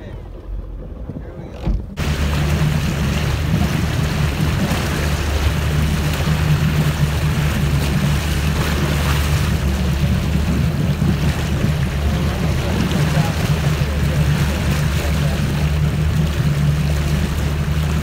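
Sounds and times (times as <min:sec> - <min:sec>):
churning wake and wind: 0:00.0 - 0:18.0
motorboat engine running: 0:00.0 - 0:18.0.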